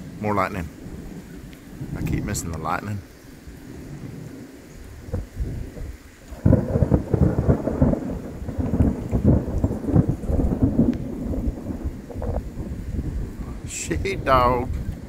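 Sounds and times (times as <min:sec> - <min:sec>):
thunder crackles: 0:00.0 - 0:15.0
thunder rumbling: 0:00.0 - 0:15.0.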